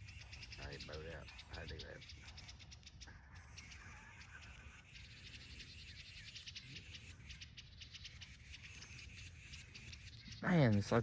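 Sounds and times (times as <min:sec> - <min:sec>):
songbird alarm chip calls: 0:00.0 - 0:11.0.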